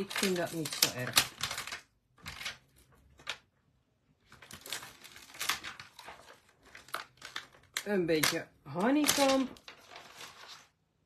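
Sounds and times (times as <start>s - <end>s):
plastic sheet crinkling: 0.0s - 3.4s, 4.2s - 10.8s.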